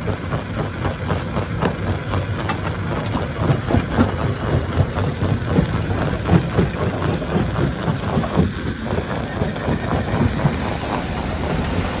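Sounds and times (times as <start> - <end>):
stone crusher rumbling: 1.2 - 12.0.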